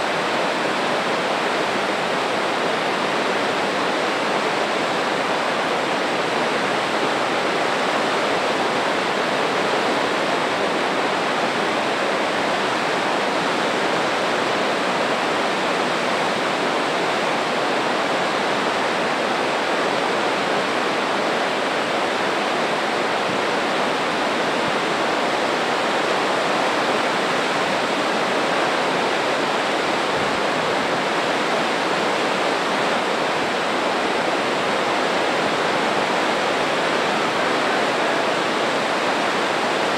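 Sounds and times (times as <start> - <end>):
river rushing through whitewater: 0.0 - 39.9.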